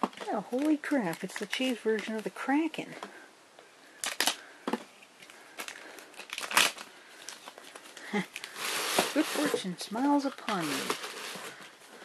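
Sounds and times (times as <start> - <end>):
packaging crinkling: 0.0 - 2.4, 3.9 - 12.0.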